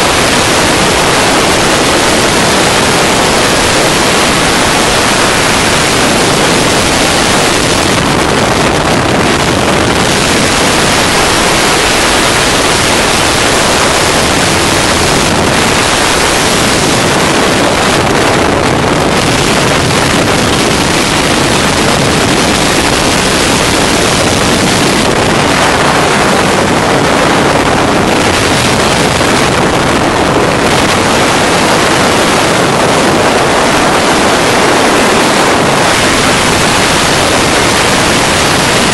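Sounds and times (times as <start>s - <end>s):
engine drone: 0.0s - 38.9s
wind rushing on microphone: 0.0s - 38.9s.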